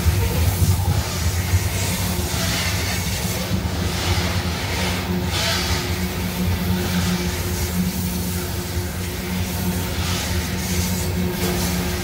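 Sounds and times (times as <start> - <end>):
steady low hum: 0.0 - 12.0
steel wheels on rail: 0.0 - 12.0.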